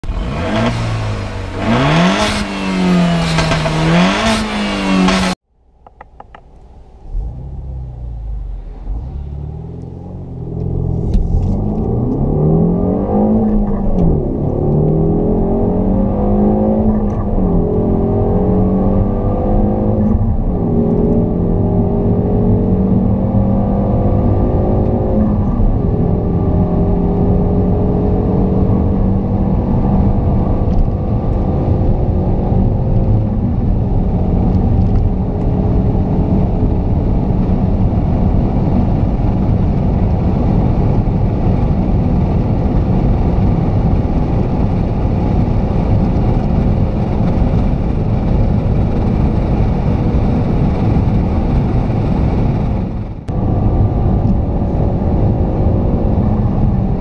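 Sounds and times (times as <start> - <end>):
car engine accelerating through gears: 0.0 - 5.4, 6.9 - 57.0
car engine revving: 0.0 - 57.0.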